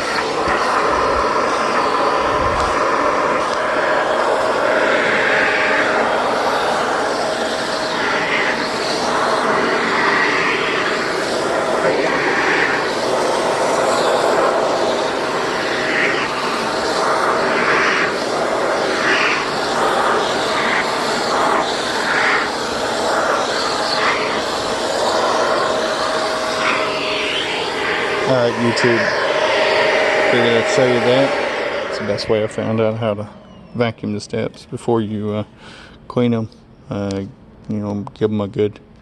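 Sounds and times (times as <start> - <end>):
vacuum cleaner running: 0.0 - 34.2.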